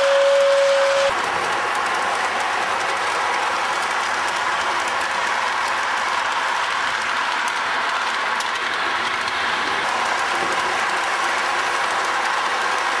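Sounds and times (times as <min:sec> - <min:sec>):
toy train running on track: 0:00.0 - 0:13.0.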